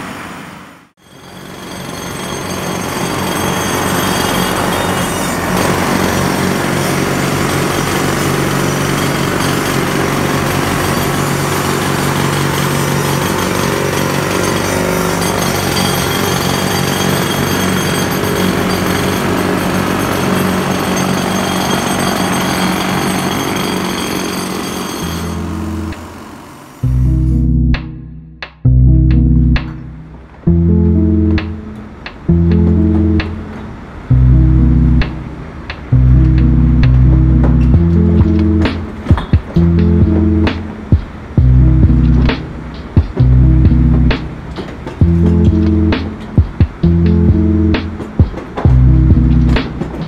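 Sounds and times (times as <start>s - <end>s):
pneumatic jackhammers hammering concrete: 1.0s - 28.0s, 29.1s - 50.0s.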